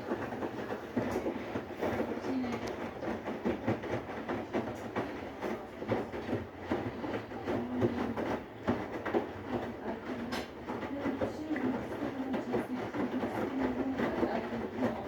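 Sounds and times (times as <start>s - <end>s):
washing machine drum knocking: 0.0s - 15.0s.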